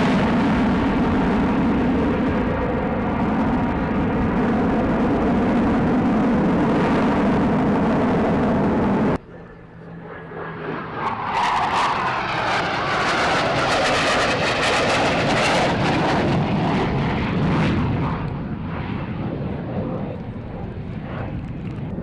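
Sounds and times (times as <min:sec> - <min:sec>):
jet passing by: 0:00.0 - 0:22.0.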